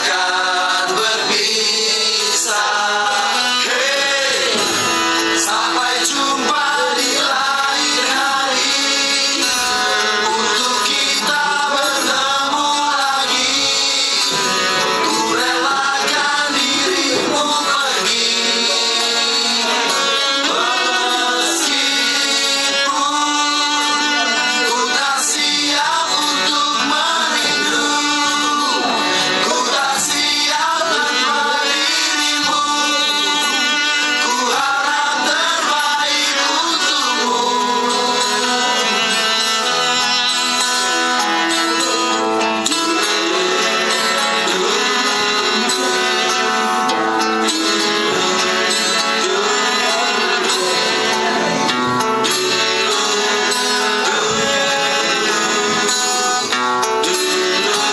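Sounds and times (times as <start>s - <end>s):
song with plucked strings: 0.0s - 57.9s.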